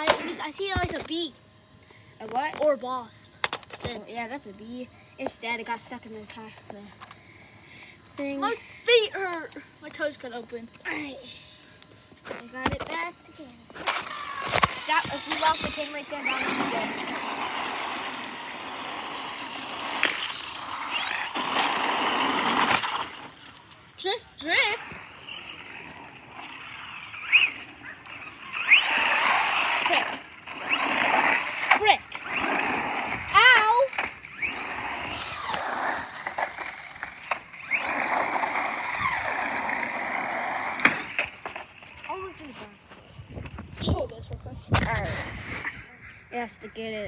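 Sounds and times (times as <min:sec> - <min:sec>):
rc car tires crunching gravel: 0:00.0 - 0:47.0.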